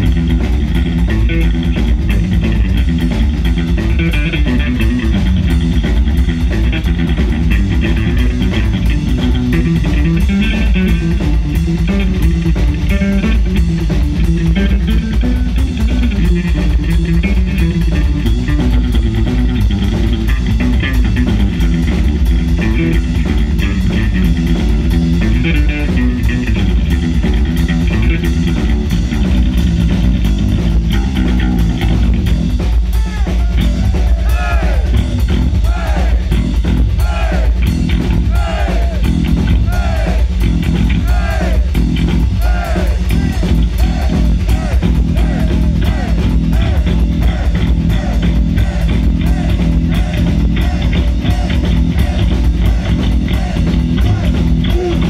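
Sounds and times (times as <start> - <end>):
bending lead guitar notes: 0.0 - 35.6, 36.2 - 55.0
heavy metal band playing: 0.0 - 55.0.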